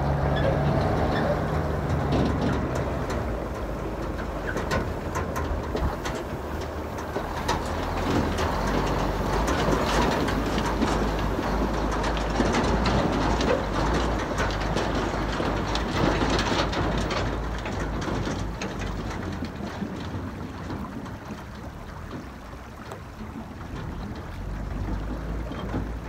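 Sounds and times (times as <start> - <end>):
river water running over stones: 0.0 - 26.0
wind on microphone: 0.3 - 22.4.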